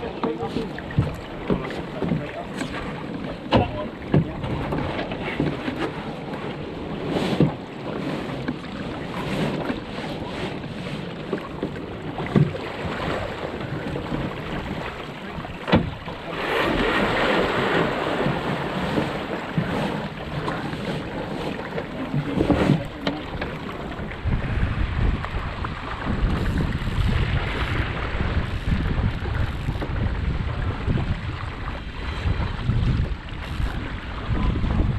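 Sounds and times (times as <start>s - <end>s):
water rushing along boat hull: 0.0s - 34.9s
wind buffeting microphone: 0.0s - 34.9s.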